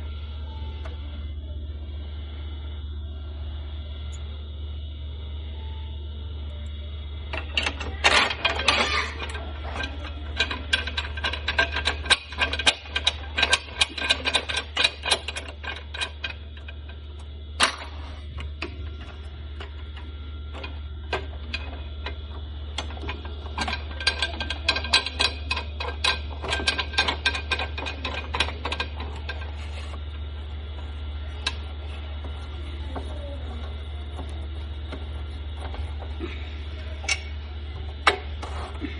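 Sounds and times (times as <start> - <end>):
low hum: 0.0 - 38.9
small hard parts clicking: 7.3 - 38.9.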